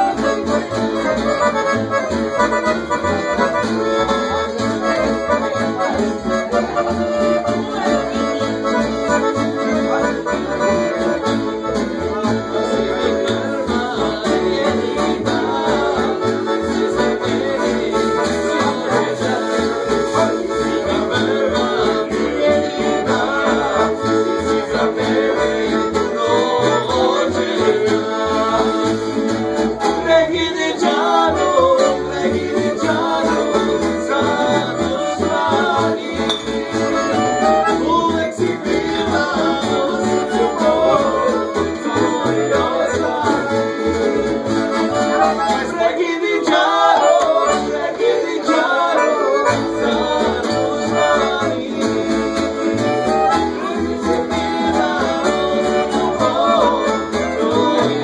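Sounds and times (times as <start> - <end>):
accordion: 0.0 - 58.0
men singing: 0.0 - 58.0
plucked string instrument: 0.0 - 58.0
strummed guitars: 0.0 - 58.0
upright bass: 0.0 - 58.0.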